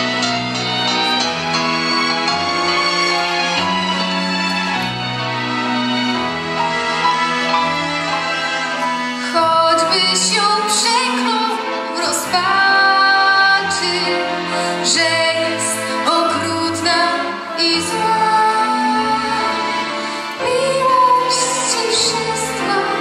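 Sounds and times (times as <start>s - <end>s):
instrumental accompaniment: 0.0s - 23.0s.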